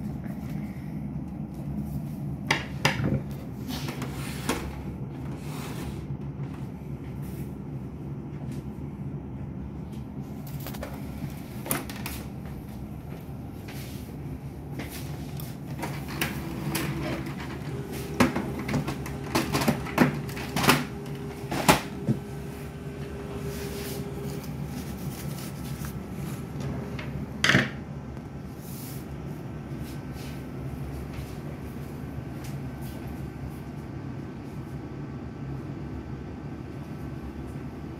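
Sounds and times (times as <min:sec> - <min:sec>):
printer motor and fan hum: 0:00.0 - 0:37.9
steady whirring tone: 0:00.0 - 0:37.9.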